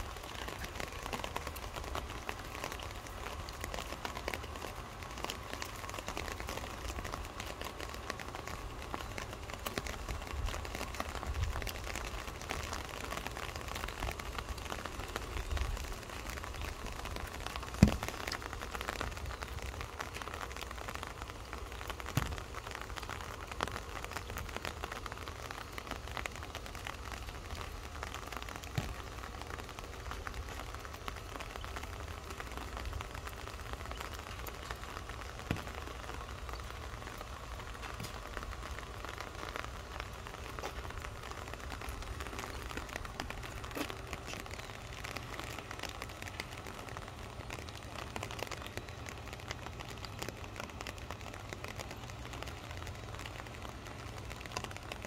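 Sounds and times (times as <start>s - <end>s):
rain patter: 0.0s - 55.0s
water trickling down rain chain: 0.0s - 55.0s.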